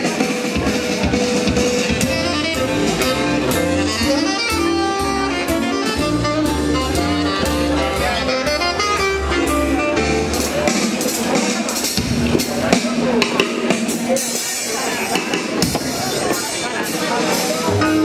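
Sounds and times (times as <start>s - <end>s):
jazz quartet playing swing: 0.5s - 12.8s, 15.8s - 18.0s.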